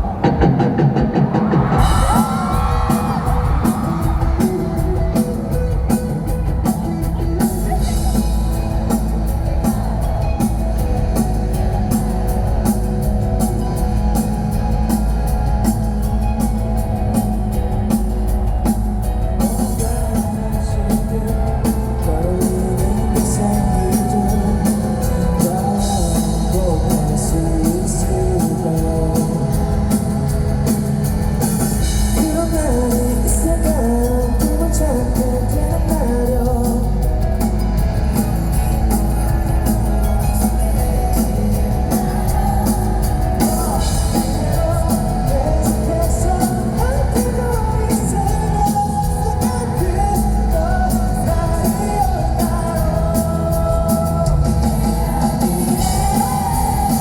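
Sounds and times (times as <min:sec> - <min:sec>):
live rock band playing: 0:00.0 - 0:57.0
sung lead vocal: 0:00.0 - 0:57.0.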